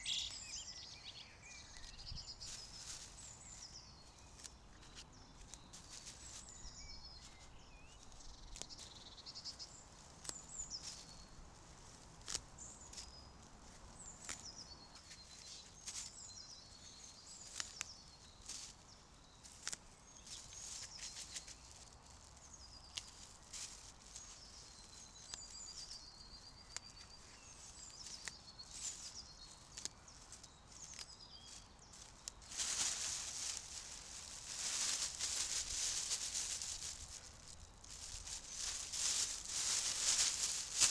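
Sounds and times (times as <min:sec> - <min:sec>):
birds singing: 0:00.0 - 0:23.4, 0:24.0 - 0:40.9
rustling: 0:01.6 - 0:16.2, 0:19.4 - 0:40.9.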